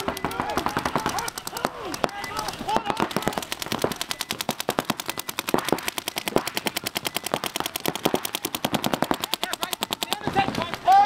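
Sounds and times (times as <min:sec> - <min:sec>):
paintball markers firing rapidly: 0:00.0 - 0:10.7.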